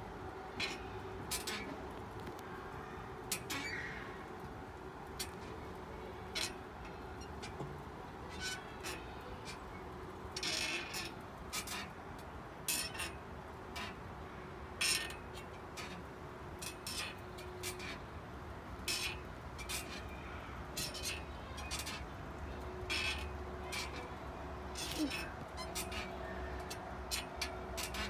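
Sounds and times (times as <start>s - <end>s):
porch swing creaking: 0.0s - 28.0s.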